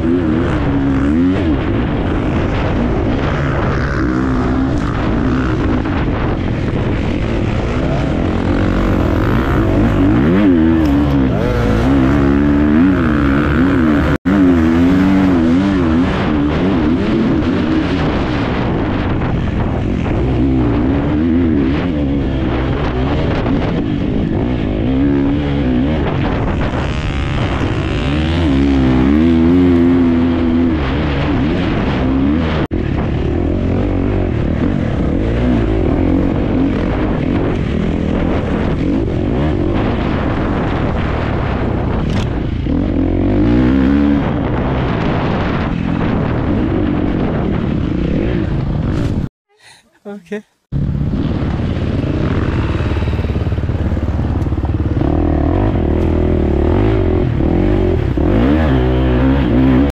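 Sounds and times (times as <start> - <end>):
motorcycle engine revving: 0.0 - 49.3, 50.7 - 59.9.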